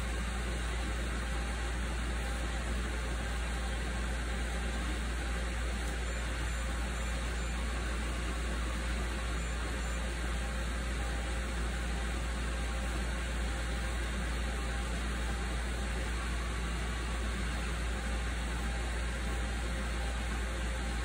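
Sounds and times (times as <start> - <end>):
cooling fans whirring: 0.0 - 21.0
faint motor tones: 0.0 - 21.0.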